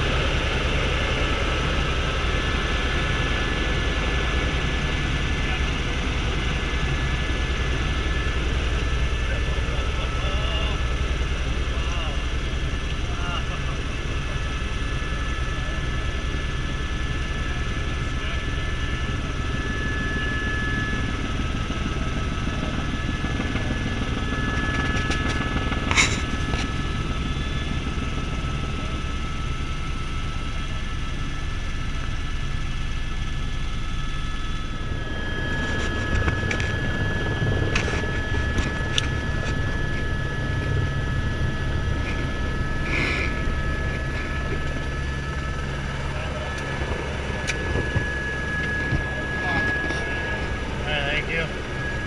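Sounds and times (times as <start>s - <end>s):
helicopter rotor rumble: 0.0s - 52.0s
high turbine whine: 0.0s - 52.0s.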